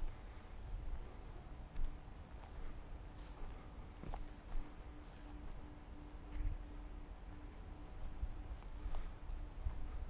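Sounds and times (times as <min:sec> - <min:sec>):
footsteps through grass: 0:00.0 - 0:10.0
low steady rumble: 0:00.0 - 0:10.0.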